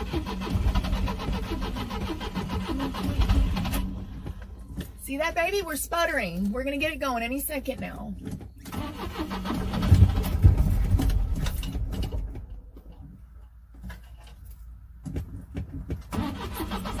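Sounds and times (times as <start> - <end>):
car engine cranking and sputtering: 0.0 - 5.8, 7.9 - 17.0.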